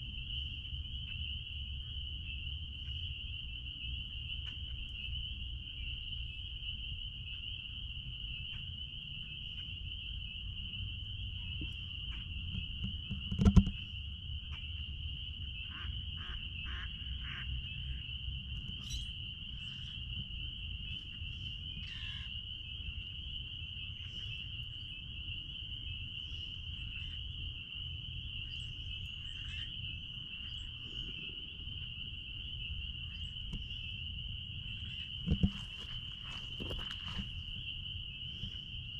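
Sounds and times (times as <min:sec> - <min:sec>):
spring peepers chorusing: 0:00.0 - 0:38.9.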